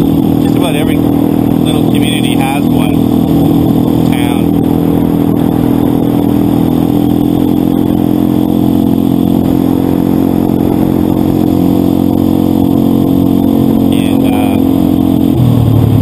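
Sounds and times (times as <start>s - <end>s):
motorcycle engine running: 0.0s - 16.0s
rush of wind noise: 0.0s - 16.0s.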